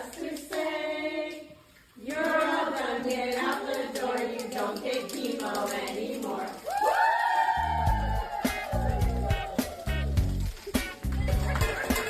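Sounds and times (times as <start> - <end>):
group of voices singing: 0.0 - 10.0.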